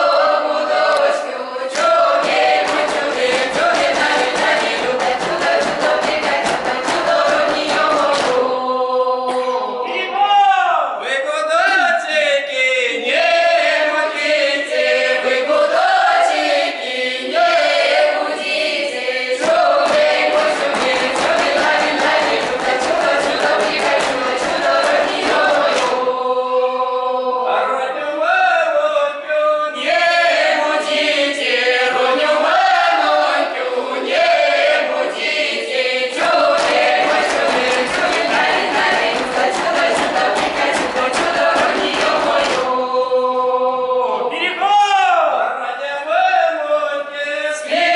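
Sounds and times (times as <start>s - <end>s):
mixed choir singing unaccompanied: 0.0s - 10.1s, 12.5s - 44.6s, 45.5s - 47.9s.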